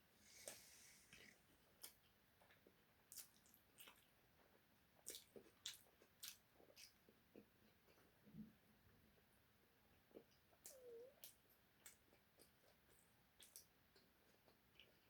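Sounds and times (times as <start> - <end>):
faint chewing and mouth smacks: 0.2 - 15.0.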